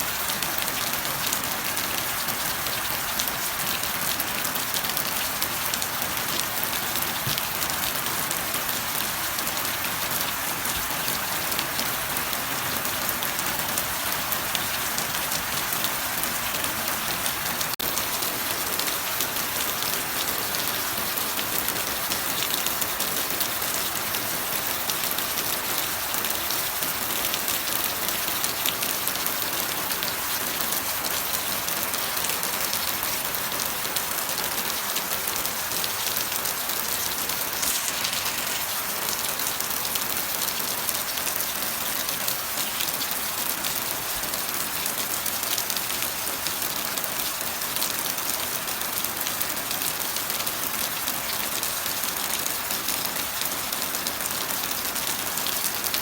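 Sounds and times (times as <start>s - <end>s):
heavy rain falling: 0.0s - 50.2s.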